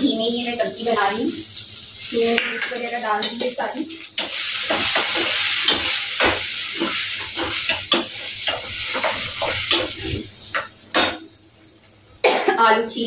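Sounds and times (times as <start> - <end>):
tomatoes sizzling in pan: 0.0 - 12.2.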